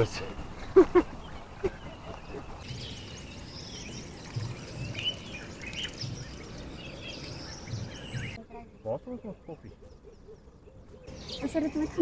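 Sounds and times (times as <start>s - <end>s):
birds chirping and singing: 0.0s - 12.0s
faint outdoor hiss: 0.0s - 12.0s.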